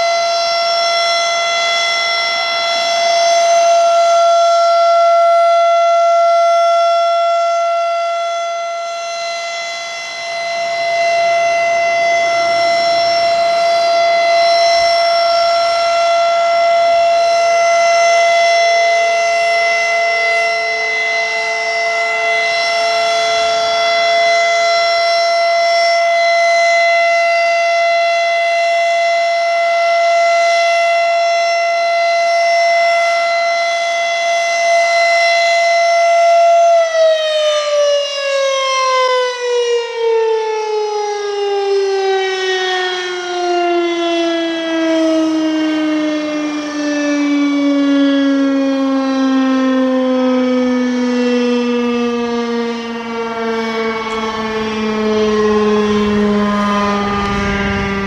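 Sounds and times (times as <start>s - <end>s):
siren winding down: 0.0s - 58.0s
warning siren alert tone: 0.0s - 58.0s.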